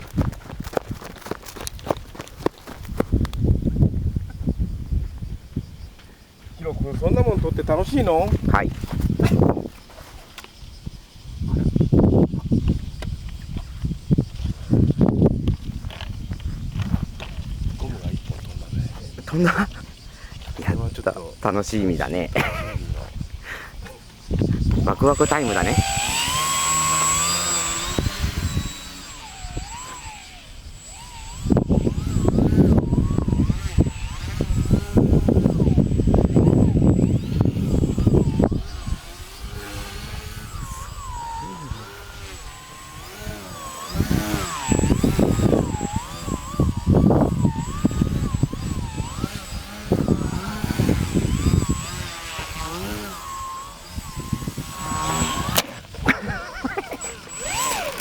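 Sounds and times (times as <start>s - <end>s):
wind buffeting microphone: 0.0s - 58.0s
model airplane motor whining: 6.7s - 10.8s, 11.6s - 58.0s.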